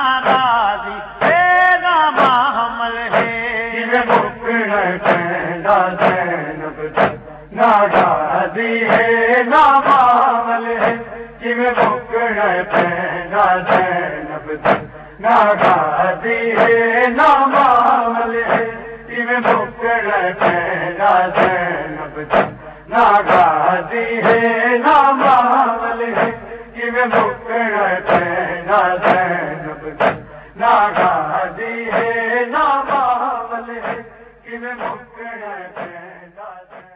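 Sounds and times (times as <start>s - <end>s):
men chanting a lament: 0.0s - 36.9s
rhythmic chest-beating strikes: 0.0s - 36.9s.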